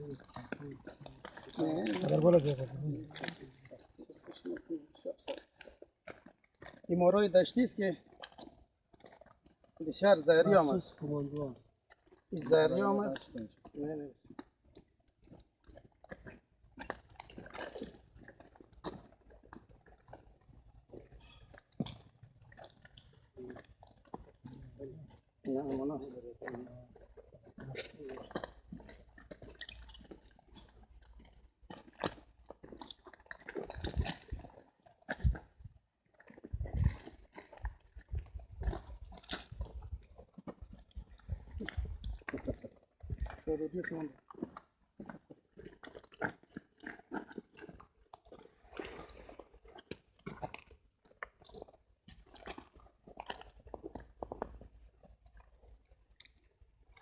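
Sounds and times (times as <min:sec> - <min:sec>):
person chewing meat: 0:00.0 - 0:07.0, 0:08.0 - 0:09.8, 0:11.4 - 0:25.8, 0:26.4 - 0:57.0.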